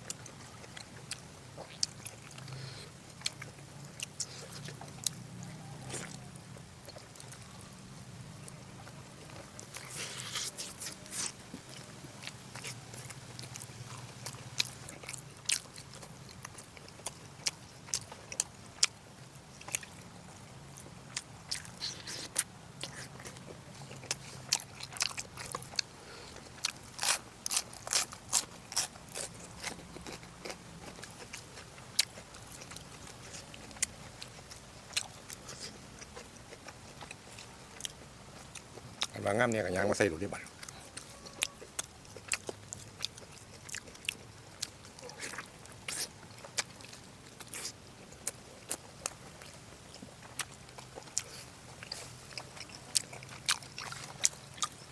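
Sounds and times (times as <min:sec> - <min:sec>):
person chewing food: 0:00.0 - 0:39.1, 0:40.4 - 0:54.9.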